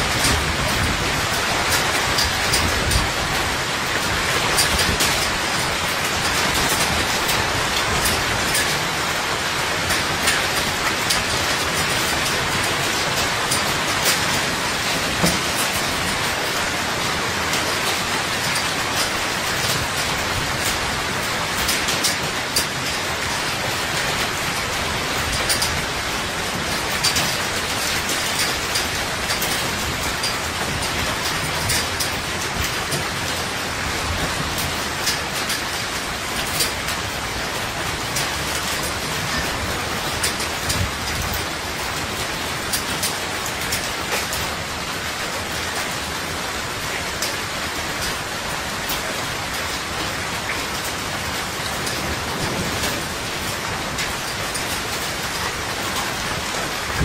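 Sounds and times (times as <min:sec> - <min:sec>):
heavy rain falling: 0:00.0 - 0:57.0
raindrops tapping hard surfaces: 0:00.0 - 0:57.0.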